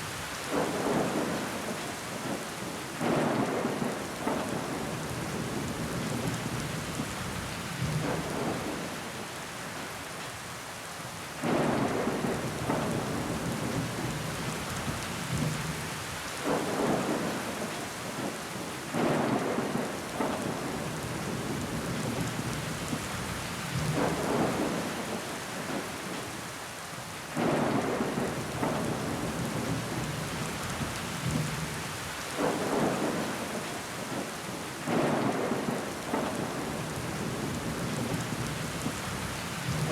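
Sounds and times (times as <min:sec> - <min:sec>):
rain against a window: 0:00.0 - 0:39.9.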